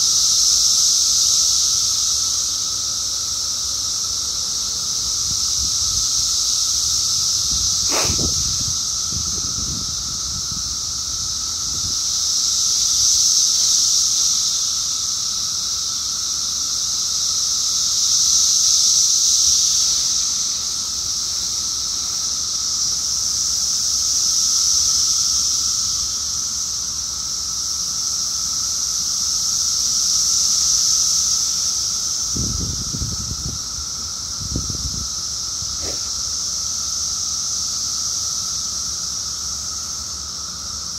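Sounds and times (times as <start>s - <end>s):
cicadas shrill hiss: 0.0s - 40.9s
lower-pitched cicada drone: 0.0s - 40.9s.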